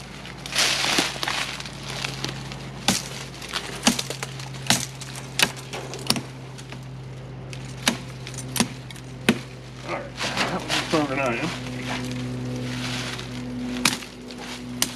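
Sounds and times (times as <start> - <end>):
machete chopping branches: 0.4 - 6.9, 7.5 - 9.6, 10.2 - 14.9.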